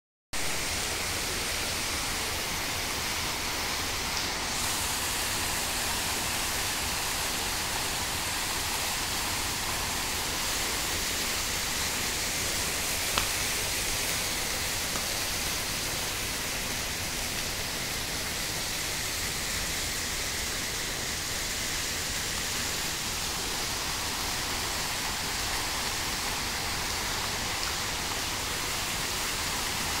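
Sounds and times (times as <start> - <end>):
fountain water splashing: 0.4 - 30.0.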